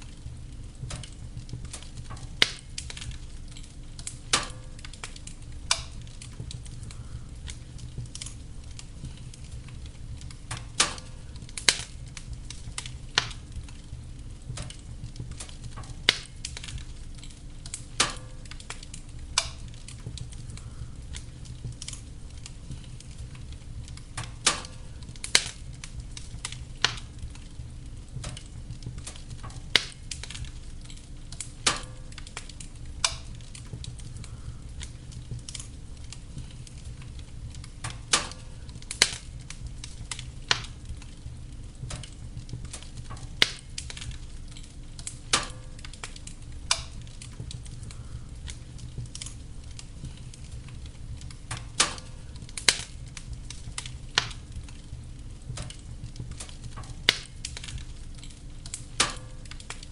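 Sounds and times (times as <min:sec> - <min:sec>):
burning logs crackling and popping: 0:00.0 - 0:59.9
rumble of fire flames: 0:00.0 - 0:59.9.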